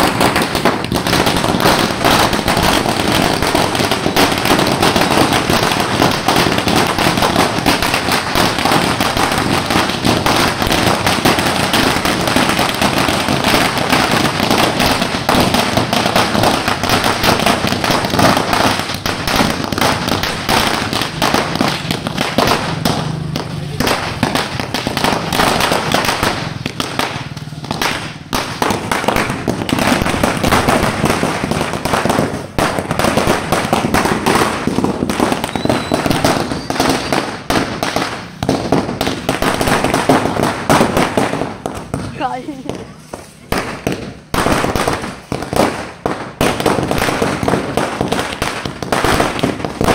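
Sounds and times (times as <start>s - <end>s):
firecrackers crackling: 0.0s - 49.9s.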